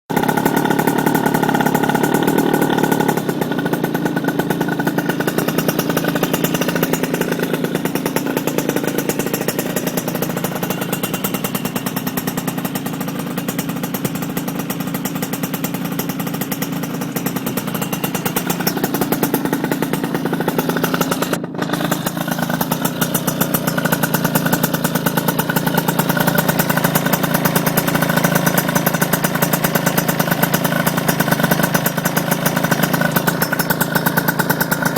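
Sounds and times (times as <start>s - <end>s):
exhaust leak: 0.1s - 34.9s
motorcycle engine idling: 0.1s - 34.9s.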